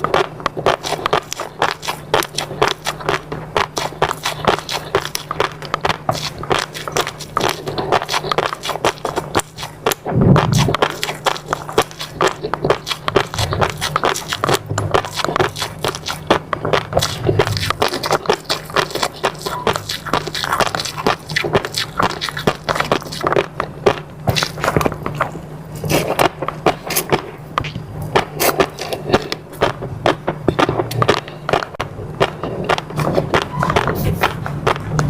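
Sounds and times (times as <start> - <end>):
steady low hum: 0.0 - 35.0
wet chewing sounds: 0.0 - 35.0.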